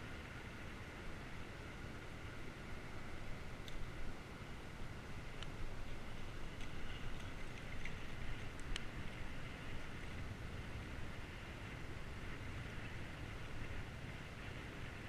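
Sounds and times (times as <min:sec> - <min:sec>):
bicycle riding noise: 0:00.0 - 0:15.0
wind: 0:00.0 - 0:15.0.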